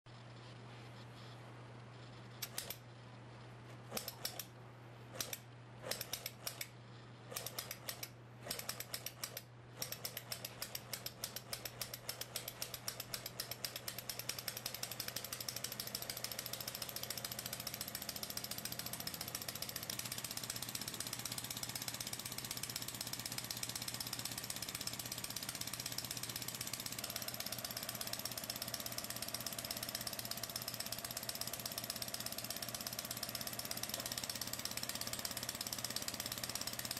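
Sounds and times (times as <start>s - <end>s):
toy pneumatic engine clattering: 2.4s - 2.8s, 3.9s - 4.5s, 5.1s - 36.9s.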